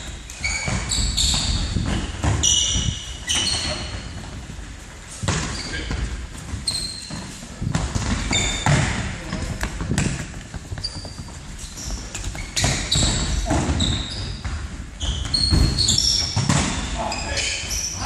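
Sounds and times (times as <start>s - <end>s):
shoes squeaking on floor: 0.0s - 18.0s.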